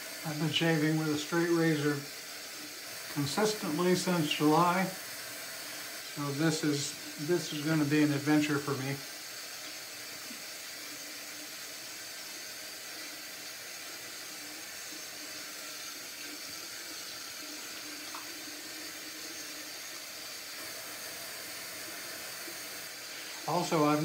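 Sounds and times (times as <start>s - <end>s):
water running from a tap: 0.0s - 24.0s.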